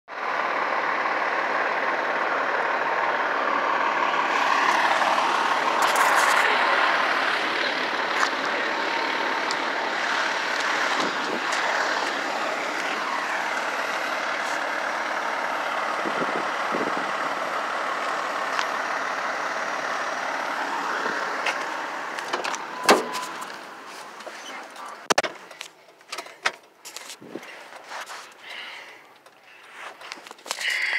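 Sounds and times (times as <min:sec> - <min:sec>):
fire truck engine and pump: 0:00.1 - 0:30.9.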